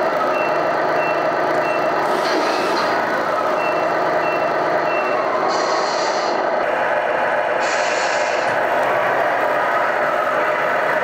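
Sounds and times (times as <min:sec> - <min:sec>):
simulated diesel truck engine: 0:00.0 - 0:11.0.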